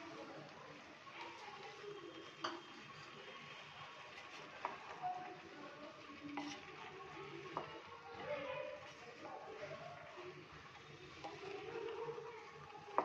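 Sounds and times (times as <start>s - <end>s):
faint sizzle: 0.0s - 13.0s
wooden spatula stirring vegetables: 0.0s - 13.0s.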